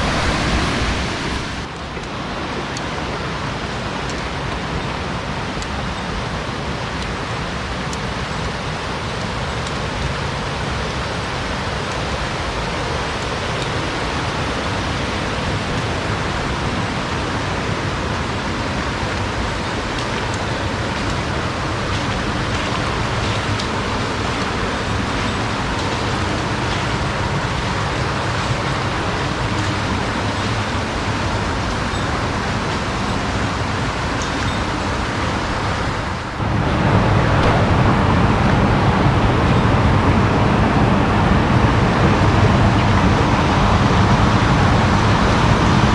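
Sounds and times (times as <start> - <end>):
fast-flowing water rushing: 0.0 - 45.9.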